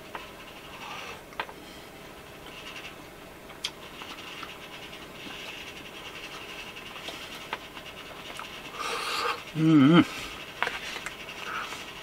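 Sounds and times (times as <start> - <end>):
man chewing food: 0.0 - 12.0.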